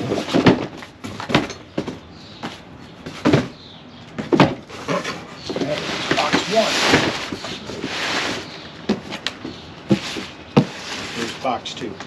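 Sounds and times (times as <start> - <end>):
items thudding on cardboard: 0.0 - 7.9, 8.8 - 11.0.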